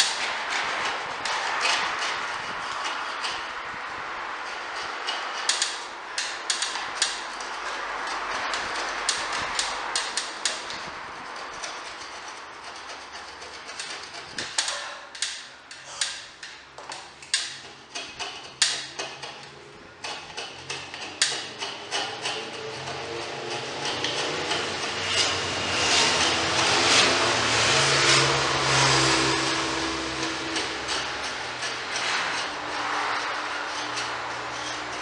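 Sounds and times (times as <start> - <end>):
sharp knocks and clicks: 0.0 - 3.6, 4.4 - 35.0
hand tool scraping wood: 0.0 - 35.0.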